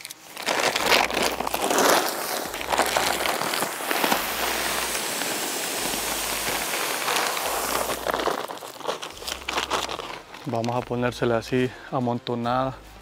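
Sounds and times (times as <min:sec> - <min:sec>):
plastic bag crinkling: 0:00.0 - 0:11.1
grain pouring onto dry leaves: 0:00.0 - 0:11.2.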